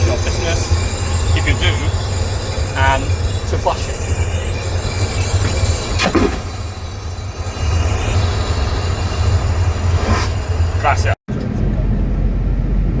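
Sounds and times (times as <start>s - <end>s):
vacuum toilet flushing whoosh: 0.0s - 11.2s
airliner cabin drone: 0.0s - 13.0s.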